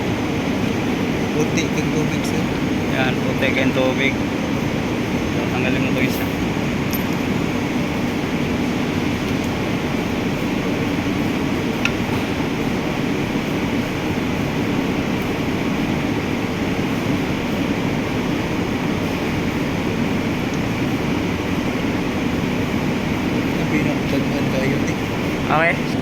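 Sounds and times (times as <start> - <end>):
droning mechanical noise: 0.0 - 26.0.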